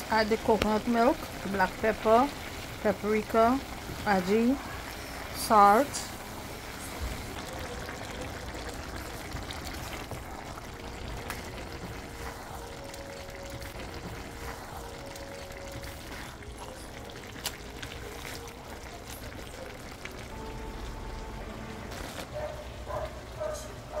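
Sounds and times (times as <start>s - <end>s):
pot bubbling and hissing: 0.0s - 23.9s.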